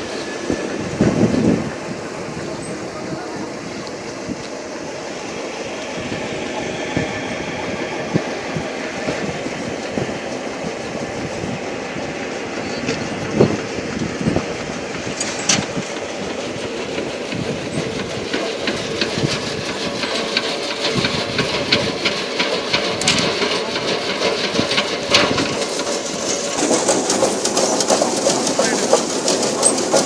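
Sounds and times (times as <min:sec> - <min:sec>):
washing machine mechanical noise: 0:00.0 - 0:30.0.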